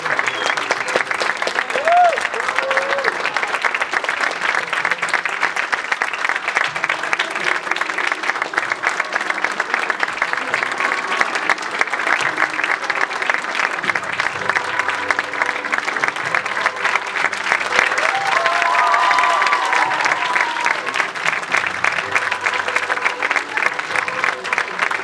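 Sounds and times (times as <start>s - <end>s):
audience applause: 0.0s - 25.0s.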